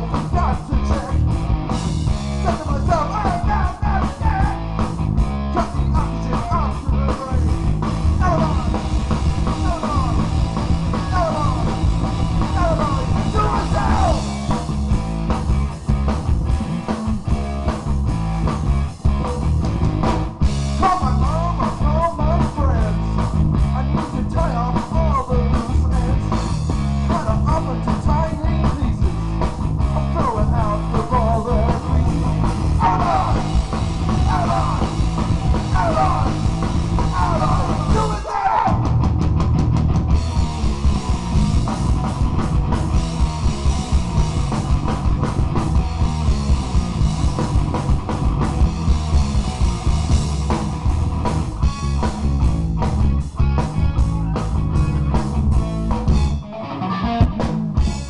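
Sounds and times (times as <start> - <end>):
lead guitar melodic lines: 0.0 - 38.2, 39.6 - 58.0
fast drumming: 0.0 - 56.4
punk rock band playing: 0.0 - 58.0.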